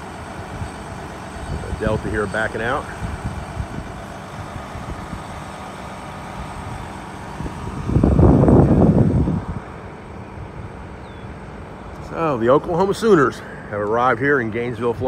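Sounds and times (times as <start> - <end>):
ground vehicle noise: 0.0 - 15.0
jet airliner rumble: 0.0 - 15.0.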